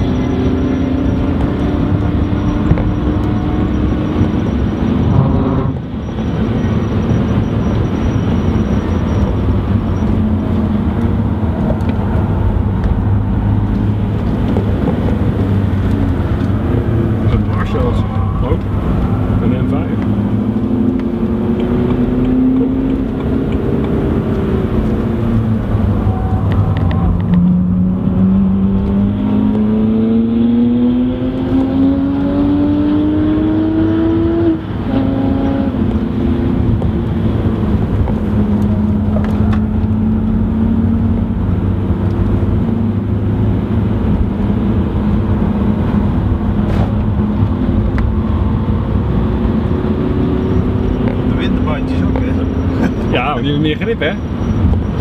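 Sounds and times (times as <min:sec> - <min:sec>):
car engine accelerating: 0:00.0 - 0:55.0
road and tyre noise: 0:00.0 - 0:55.0.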